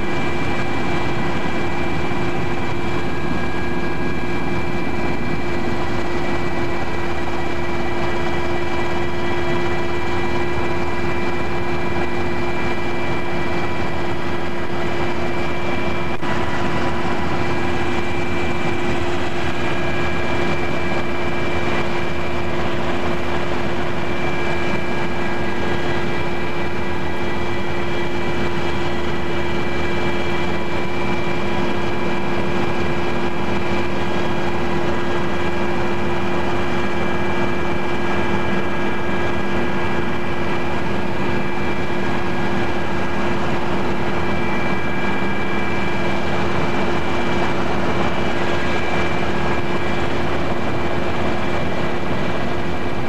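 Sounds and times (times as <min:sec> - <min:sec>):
aircraft cabin engine drone: 0:00.0 - 0:53.0.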